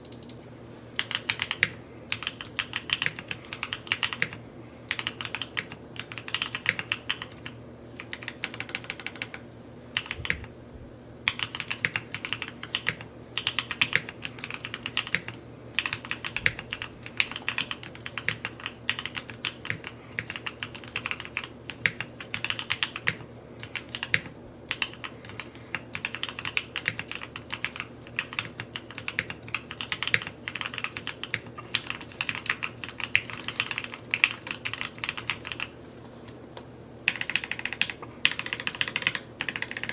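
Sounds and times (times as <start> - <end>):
mechanical keyboard typing: 0.0 - 0.4, 1.0 - 9.4, 11.3 - 35.7, 37.1 - 39.9.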